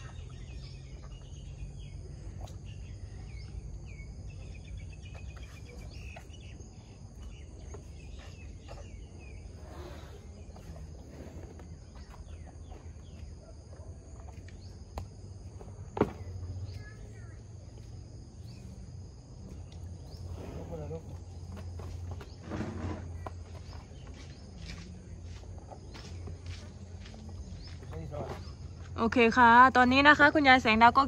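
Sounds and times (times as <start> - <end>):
birds chirping: 0.0 - 31.0
insects droning: 0.0 - 31.0.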